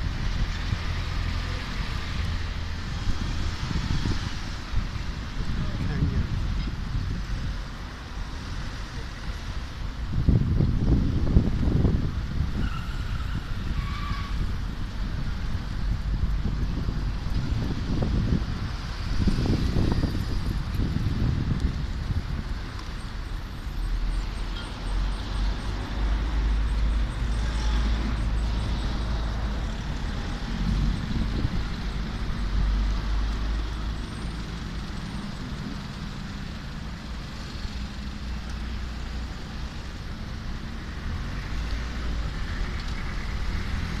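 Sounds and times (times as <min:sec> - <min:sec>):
cars passing: 0:00.0 - 0:44.0
low traffic rumble: 0:00.0 - 0:44.0.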